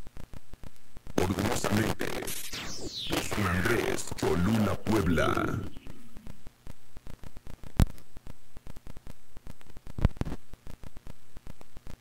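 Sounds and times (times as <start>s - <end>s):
electrical static: 0.0s - 12.0s
loud crackle: 0.0s - 12.0s
low mains hum: 0.0s - 12.0s.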